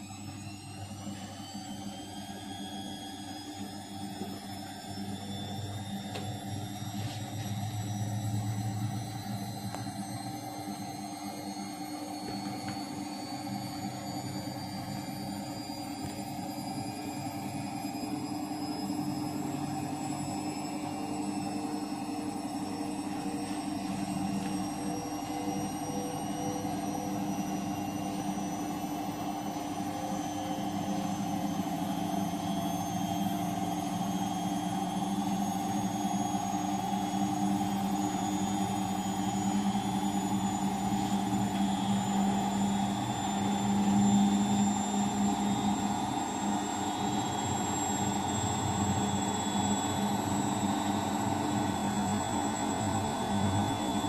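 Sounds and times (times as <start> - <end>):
washing machine motor whine: 0.0 - 54.0.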